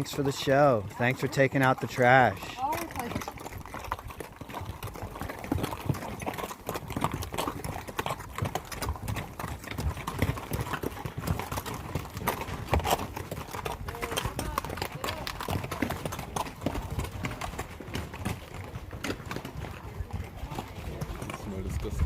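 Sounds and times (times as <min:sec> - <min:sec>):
mule hooves clopping on rocky trail: 0:00.0 - 0:22.0.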